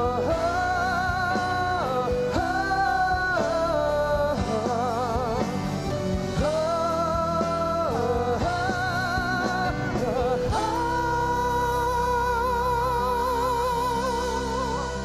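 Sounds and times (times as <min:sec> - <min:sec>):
live band accompaniment: 0:00.0 - 0:15.0
men singing with vibrato: 0:00.0 - 0:15.0.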